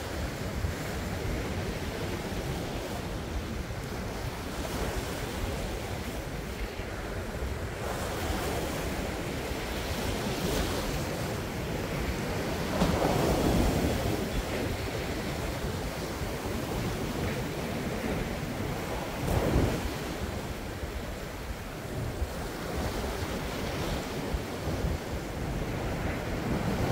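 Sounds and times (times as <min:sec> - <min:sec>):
waves breaking on rocky shore: 0:00.0 - 0:26.9
wind rumbling on microphone: 0:00.0 - 0:26.9.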